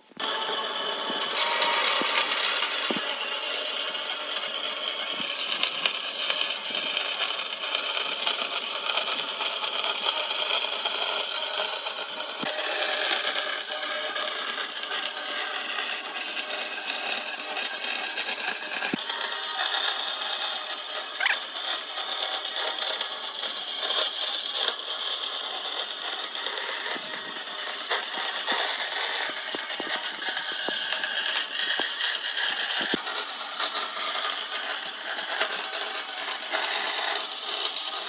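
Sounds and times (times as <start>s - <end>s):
power tool cutting wood: 0.0s - 38.0s.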